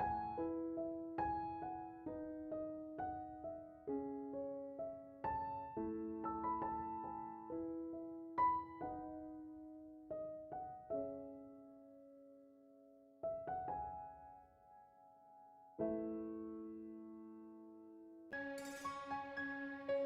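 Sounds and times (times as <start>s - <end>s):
slow gentle piano melody: 0.0s - 20.0s.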